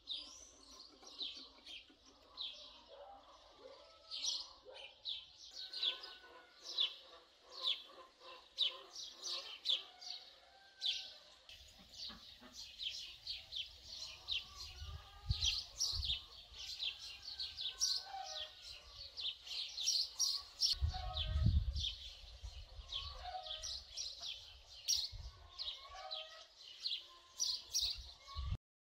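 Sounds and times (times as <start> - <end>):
small birds chirping: 0.0 - 10.3, 10.9 - 28.6.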